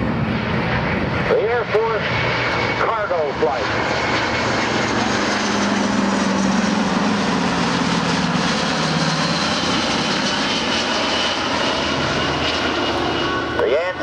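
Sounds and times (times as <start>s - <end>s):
aircraft engines roaring: 0.0s - 14.0s.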